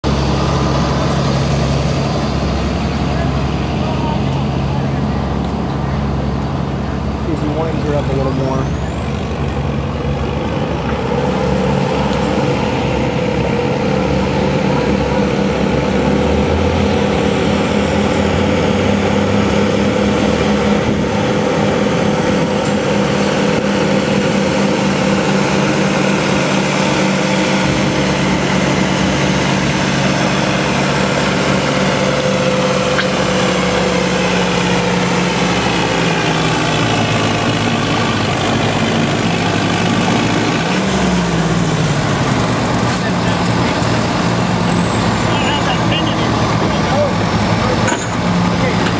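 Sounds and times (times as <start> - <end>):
tractor engine running hard: 0.0 - 48.9.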